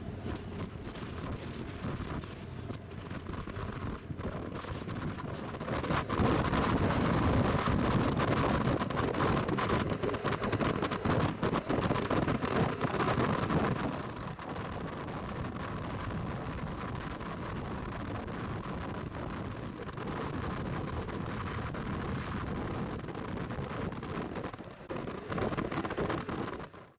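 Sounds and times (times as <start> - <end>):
motorcycle running: 0.0 - 26.9
wind rushing over microphone: 0.0 - 26.9.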